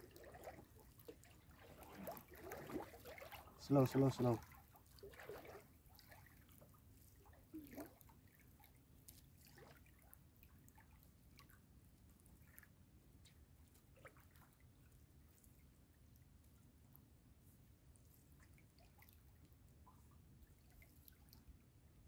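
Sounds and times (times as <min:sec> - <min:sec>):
faint water drips and trickles: 0:00.0 - 0:22.0.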